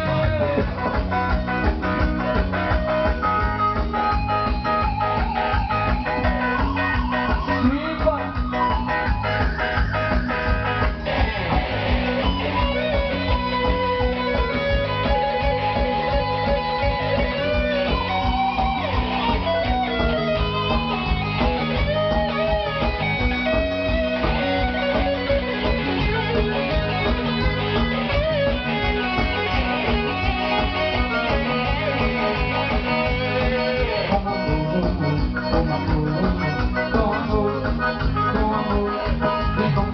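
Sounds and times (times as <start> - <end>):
lead guitar melody: 0.0 - 39.9
live band music: 0.0 - 39.9.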